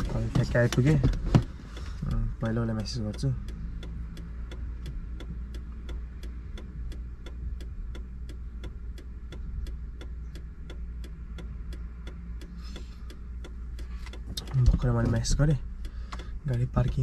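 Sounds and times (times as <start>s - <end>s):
car indicator relay ticking: 0.0s - 17.0s
low steady hum: 0.0s - 17.0s.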